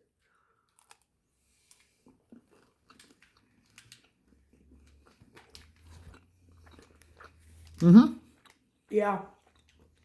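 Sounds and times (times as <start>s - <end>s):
chewing with mouth clicks: 0.6s - 10.0s.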